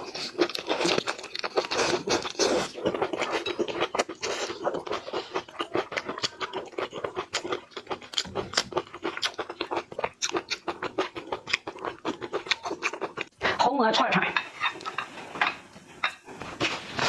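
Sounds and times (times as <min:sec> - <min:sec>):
chewing crunchy food: 0:00.0 - 0:13.6, 0:14.3 - 0:17.0.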